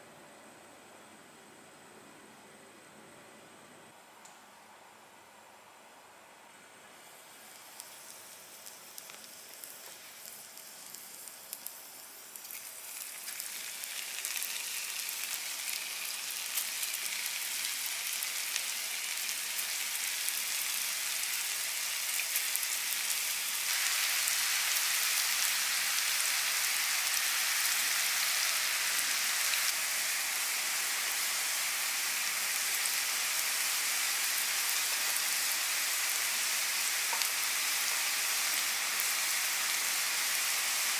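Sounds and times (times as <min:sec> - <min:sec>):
oil sizzling in a frying pan: 0:07.0 - 0:40.9.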